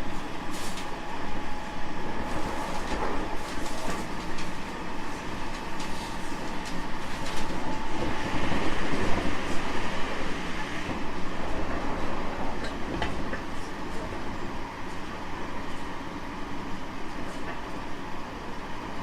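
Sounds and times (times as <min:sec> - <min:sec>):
train wheel and rail rumble: 0:00.0 - 0:19.0.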